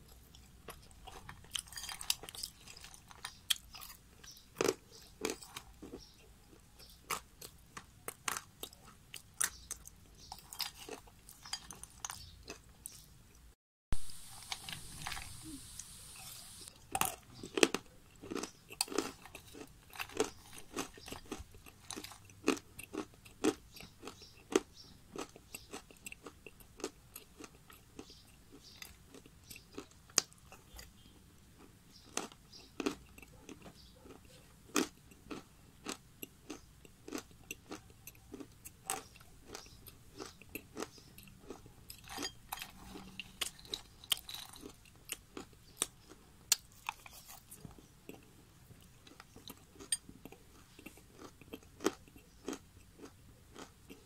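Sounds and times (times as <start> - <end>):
crunching and chewing dry clay: 0.0 - 54.0.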